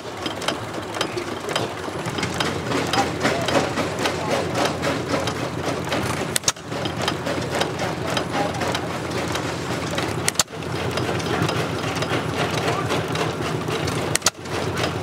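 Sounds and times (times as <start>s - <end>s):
old stationary engine running: 0.0s - 15.0s.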